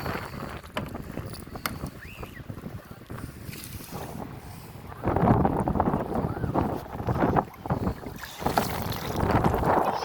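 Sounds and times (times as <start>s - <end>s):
kayak paddling water sounds: 0.0s - 10.0s
wind buffeting microphone: 0.0s - 10.0s.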